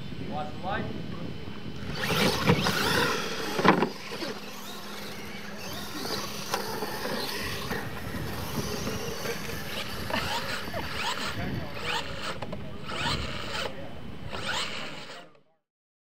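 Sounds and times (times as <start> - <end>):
toy truck motors whining: 1.8 - 15.4.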